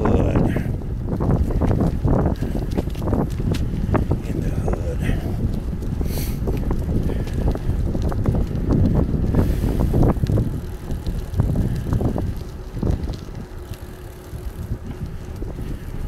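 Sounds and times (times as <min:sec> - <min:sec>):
tyre rumble on asphalt: 0:00.0 - 0:16.0
wind buffeting microphone: 0:00.0 - 0:16.0.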